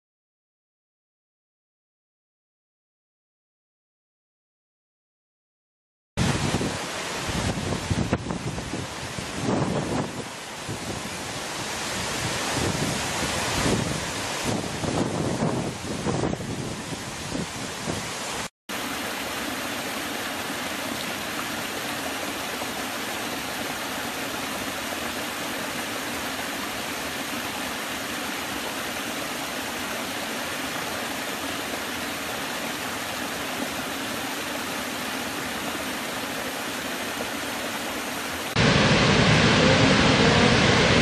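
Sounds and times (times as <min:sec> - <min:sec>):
waterfall rushing: 0:06.2 - 0:41.0.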